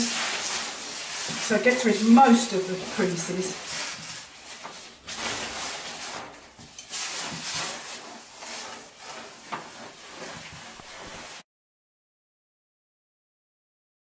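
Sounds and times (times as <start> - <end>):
iron sliding over wet fabric: 0.0 - 11.4.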